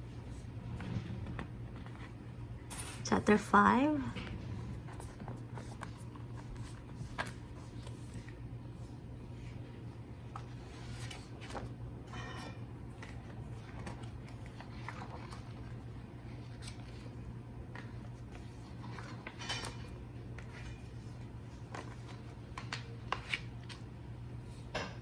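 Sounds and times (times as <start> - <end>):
steady low hum: 0.0 - 25.0
paper and plastic rustling: 0.2 - 24.7.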